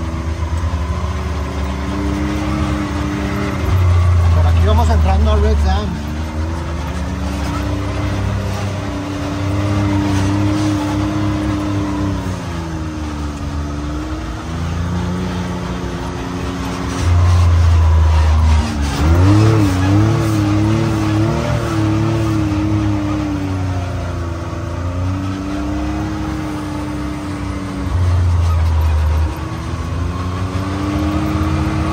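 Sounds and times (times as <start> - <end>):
engine running under changing throttle: 0.0 - 31.9.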